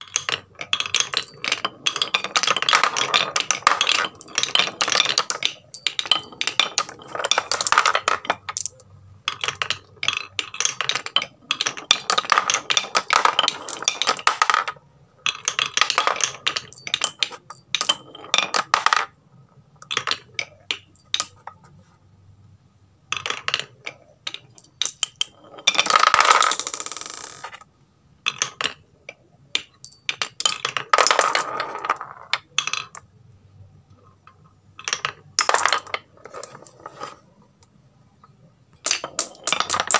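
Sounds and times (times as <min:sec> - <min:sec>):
marbles clattering on wooden run: 0:00.0 - 0:19.2, 0:19.8 - 0:21.8, 0:23.1 - 0:33.1, 0:34.0 - 0:37.2, 0:38.7 - 0:39.9.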